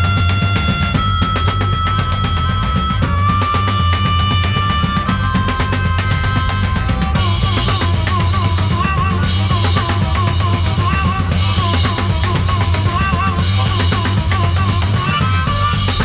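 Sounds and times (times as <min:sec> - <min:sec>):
drum kit and bass: 0:00.0 - 0:16.0
harmonica phrases: 0:00.0 - 0:16.0.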